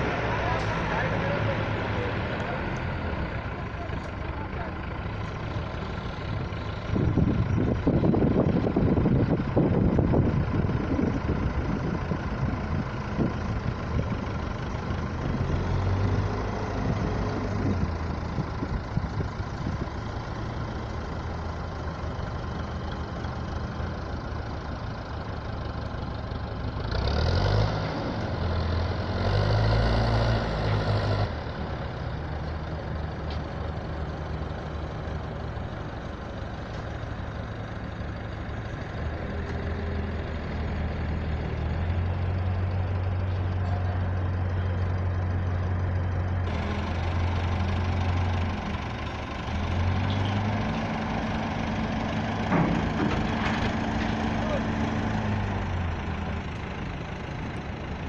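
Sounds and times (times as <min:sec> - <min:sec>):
construction machine engine running: 0:00.0 - 0:58.0.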